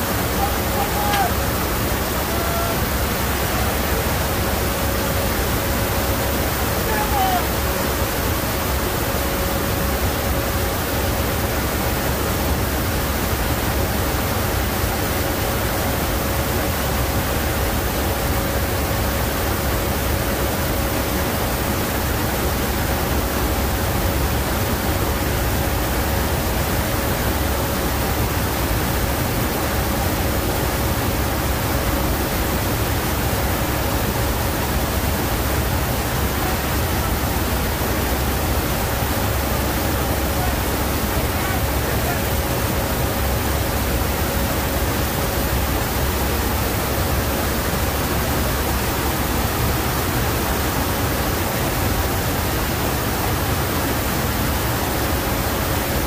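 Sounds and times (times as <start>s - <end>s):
aircraft cabin roar: 0.0s - 53.3s
steady engine whine: 0.0s - 54.6s.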